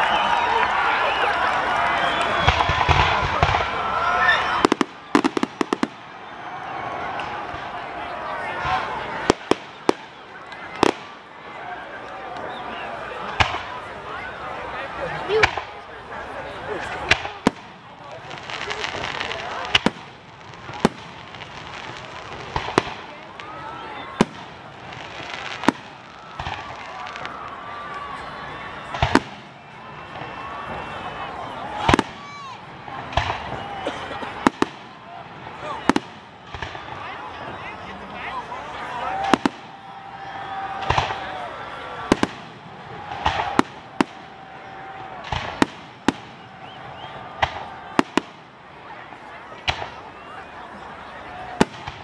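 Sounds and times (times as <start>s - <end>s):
fireworks bangs: 0.0s - 14.2s, 15.2s - 52.0s.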